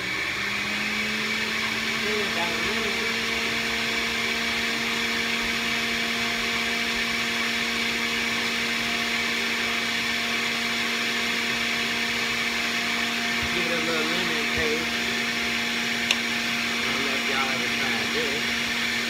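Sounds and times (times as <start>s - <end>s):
juicer motor humming: 0.0s - 19.0s.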